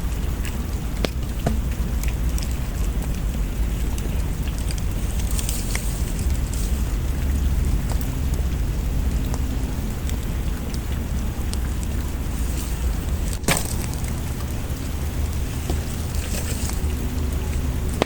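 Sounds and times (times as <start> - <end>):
steady rain: 0.0 - 18.0
wood fire crackling: 0.0 - 18.0.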